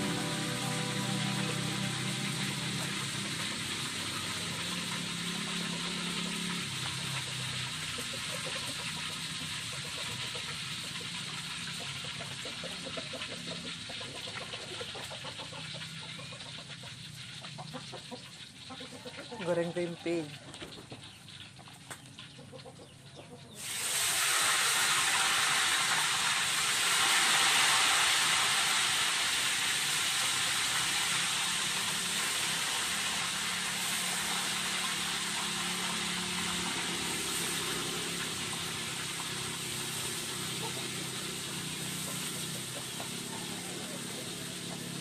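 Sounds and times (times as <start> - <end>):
slices sizzling in hot oil: 0.0 - 20.4, 23.6 - 45.0.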